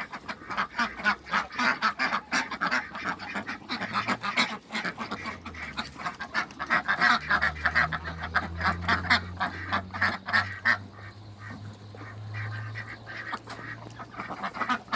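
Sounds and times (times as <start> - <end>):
ducks quacking: 0.0 - 14.9
low steady hum: 0.0 - 14.9.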